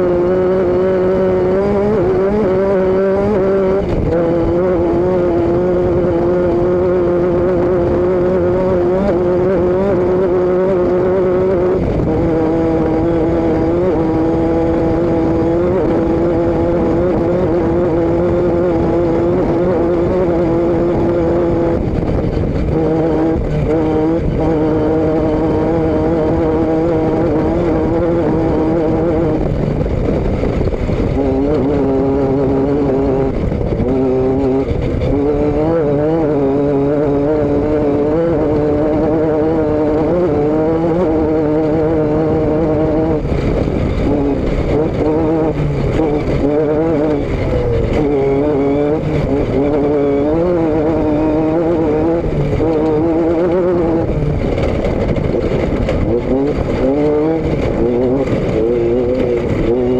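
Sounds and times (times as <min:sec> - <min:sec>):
vehicle engine and exhaust cruising: 0:00.0 - 0:59.9.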